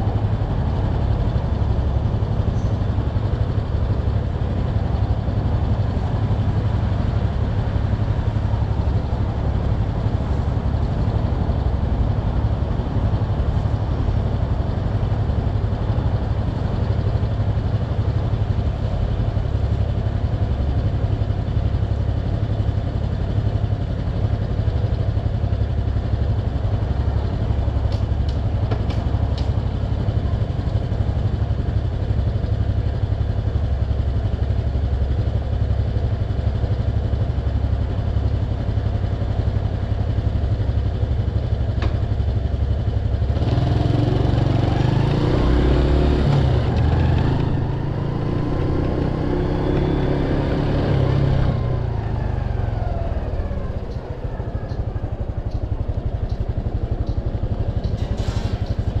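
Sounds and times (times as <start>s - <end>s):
motorcycle engine idling and accelerating: 0.0s - 59.0s.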